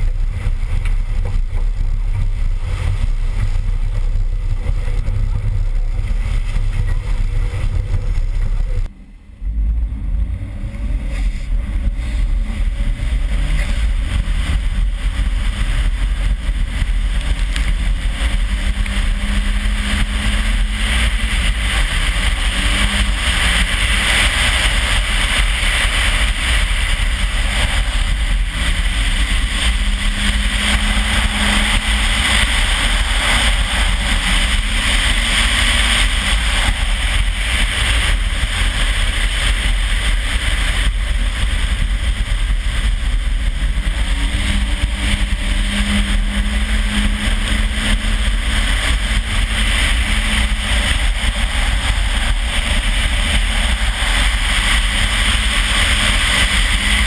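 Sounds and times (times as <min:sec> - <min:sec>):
car engine running hard: 0:00.0 - 0:57.0
wind rumble on microphone: 0:00.0 - 0:57.0
tyres spraying water and slush: 0:11.2 - 0:57.0.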